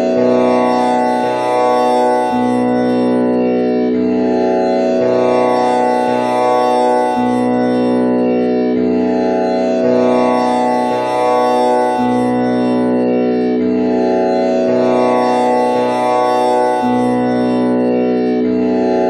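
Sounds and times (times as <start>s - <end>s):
tanpura drone plucked strings: 0.0s - 19.0s.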